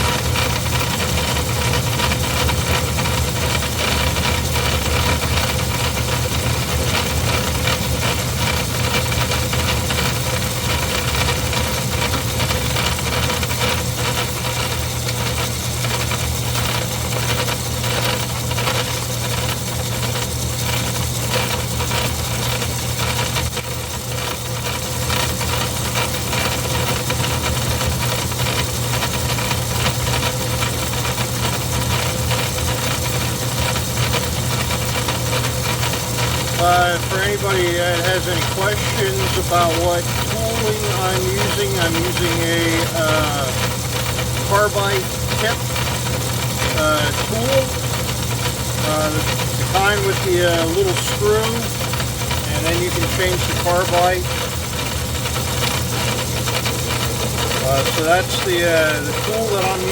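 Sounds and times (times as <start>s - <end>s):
lathe motor hum and whine: 0.0s - 59.9s
tool cutting metal: 0.0s - 59.9s.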